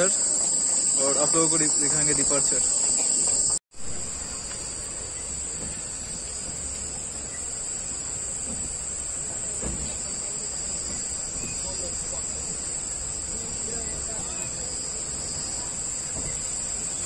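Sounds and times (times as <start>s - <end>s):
insects buzzing in trees: 0.0s - 17.0s.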